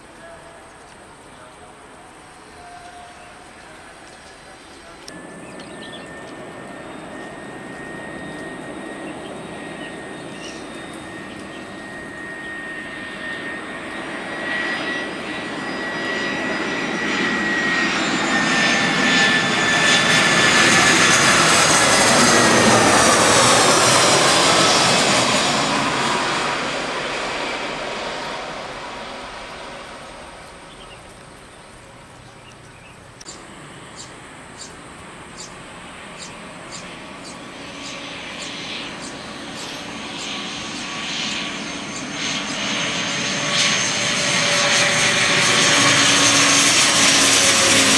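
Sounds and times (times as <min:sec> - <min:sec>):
jet engines whining: 0:02.3 - 0:31.3, 0:33.2 - 0:47.9.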